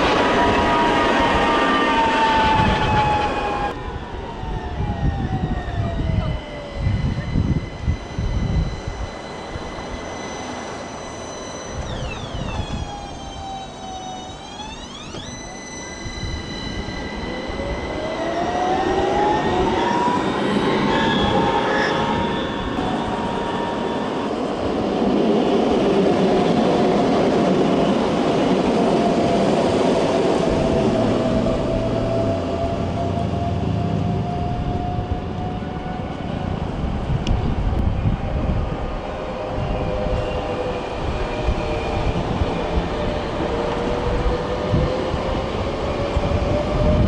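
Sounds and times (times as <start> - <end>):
tram electric drive whining: 0.0 - 47.0
tram wheels rumbling on rails: 0.0 - 47.0.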